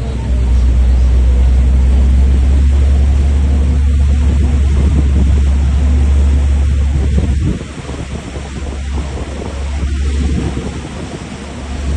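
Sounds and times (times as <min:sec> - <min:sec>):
boat engine: 0:00.0 - 0:11.9
water rushing past hull: 0:00.0 - 0:11.9
wind on microphone: 0:00.0 - 0:11.9.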